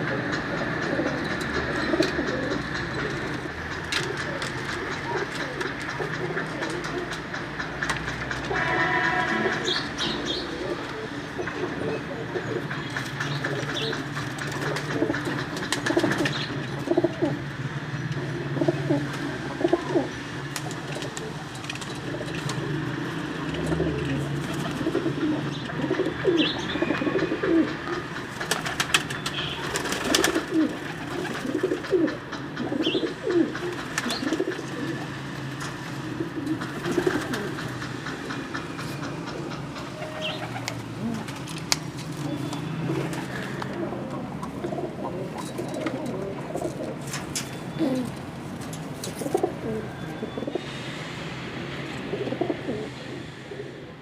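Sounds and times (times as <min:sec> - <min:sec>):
pigeons cooing: 0:00.0 - 0:51.0, 0:51.9 - 0:54.0.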